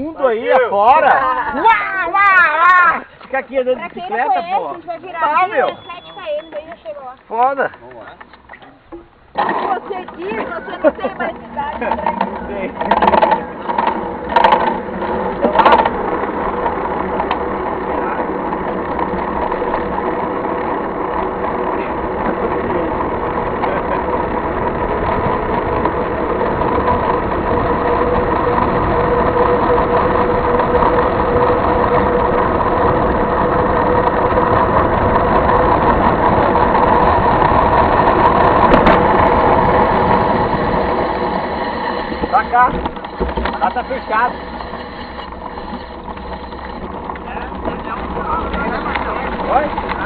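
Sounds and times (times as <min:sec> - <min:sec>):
motorcycle engine running: 0:08.8 - 0:50.0.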